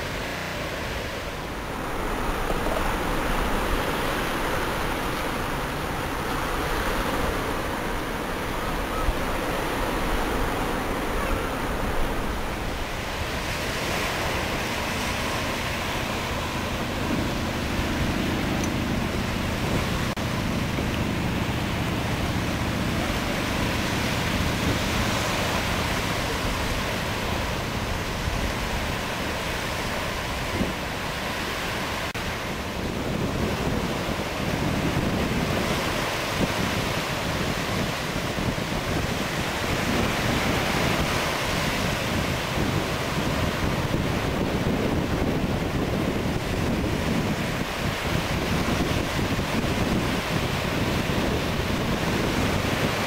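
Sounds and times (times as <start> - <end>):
small surf waves on beach: 0.0 - 53.0
wind rumbling on microphone: 0.0 - 53.0.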